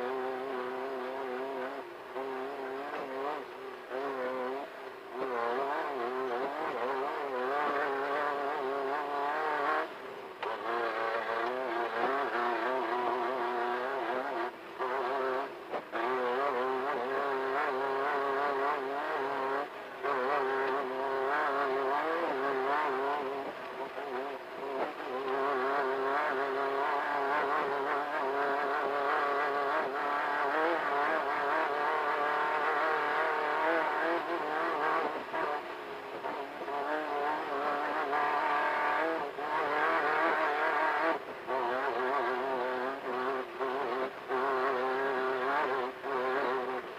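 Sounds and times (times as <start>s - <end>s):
race car engine running hard: 0.0s - 46.9s
tyre and terrain noise: 0.0s - 46.9s.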